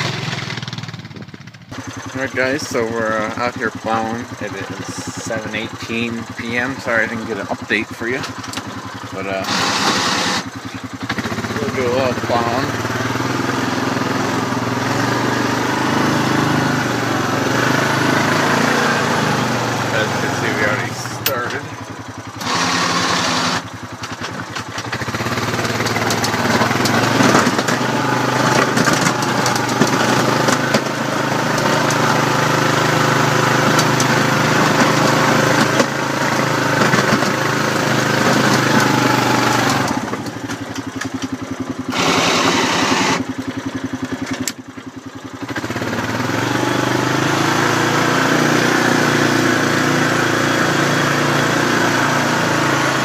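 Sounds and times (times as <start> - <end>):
atv engine under throttle: 0.0 - 53.0
plow blade pushing snow: 0.0 - 53.0.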